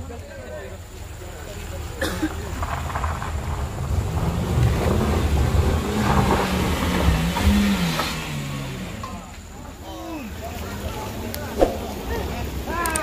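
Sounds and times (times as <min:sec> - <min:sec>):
bus engine labouring: 0:00.0 - 0:13.0.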